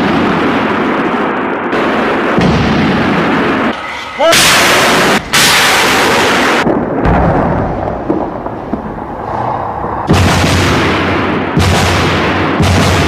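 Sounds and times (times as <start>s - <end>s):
artillery gun blasts: 0.0s - 13.0s
lingering rumble: 0.0s - 13.0s.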